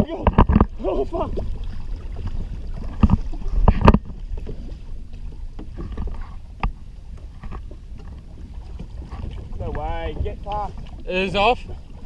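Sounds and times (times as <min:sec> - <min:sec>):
water against kayak hull: 0:00.0 - 0:12.0
wind: 0:00.0 - 0:12.0.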